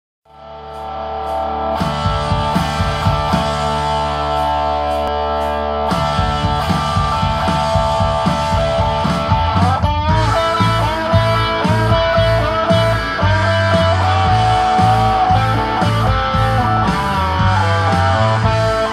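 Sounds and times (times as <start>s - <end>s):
distorted electric guitar chords: 0.2s - 18.9s.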